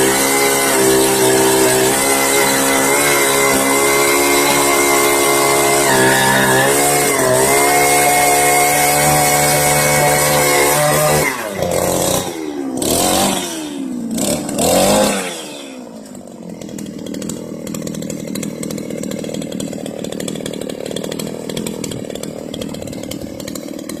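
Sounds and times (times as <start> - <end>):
small engine revving and idling: 0.0 - 24.0.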